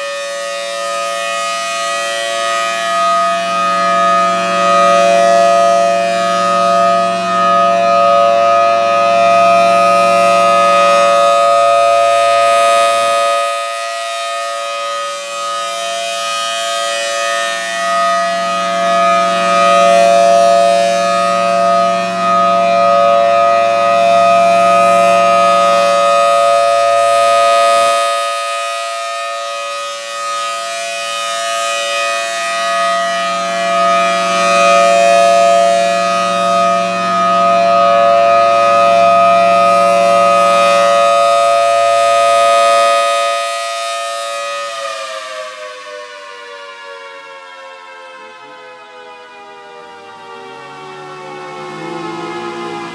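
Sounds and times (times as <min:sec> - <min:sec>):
rotating warning siren: 0:00.0 - 0:52.9.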